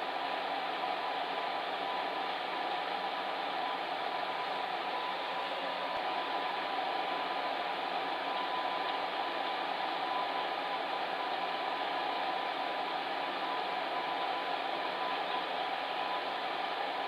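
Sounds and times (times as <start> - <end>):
faint steady hum: 0.0 - 17.0
fan heater blowing air: 0.0 - 17.0.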